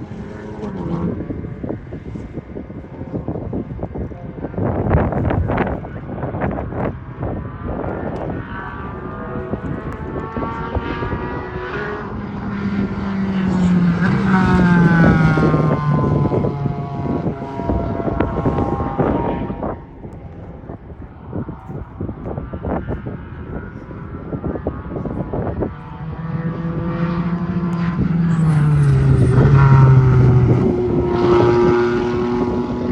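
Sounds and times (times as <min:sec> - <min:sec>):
race car passing by: 0:00.0 - 0:32.9.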